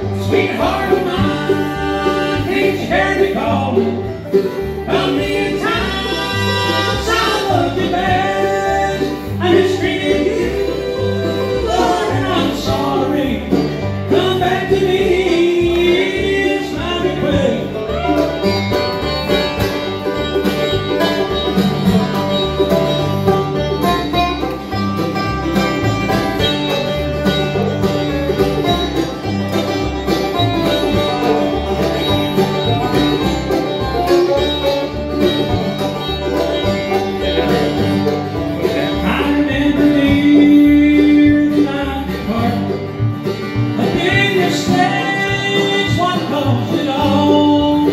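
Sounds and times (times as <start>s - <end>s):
acoustic guitar: 0.0s - 47.9s
banjo: 0.0s - 47.9s
mandolin: 0.0s - 47.9s
upright bass: 0.0s - 47.9s.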